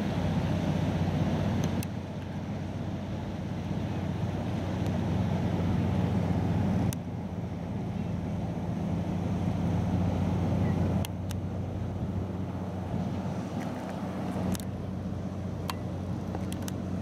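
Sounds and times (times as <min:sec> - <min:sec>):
boat diesel engine droning: 0:00.0 - 0:17.0
water rushing along hull: 0:00.0 - 0:17.0.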